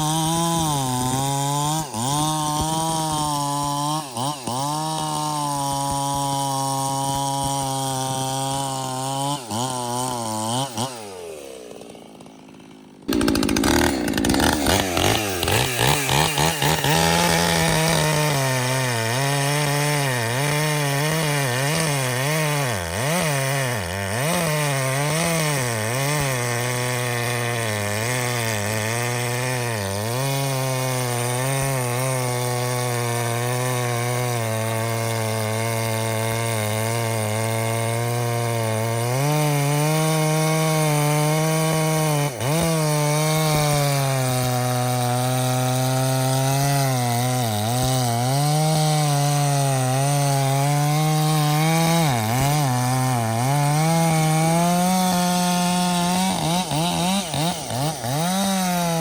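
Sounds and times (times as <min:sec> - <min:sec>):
chainsaw cutting at high revs: 0:00.0 - 0:59.0.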